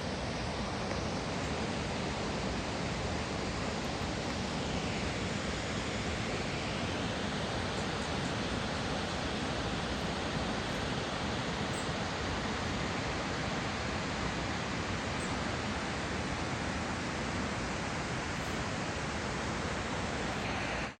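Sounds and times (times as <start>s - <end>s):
large waterfall rushing: 0.0s - 21.0s.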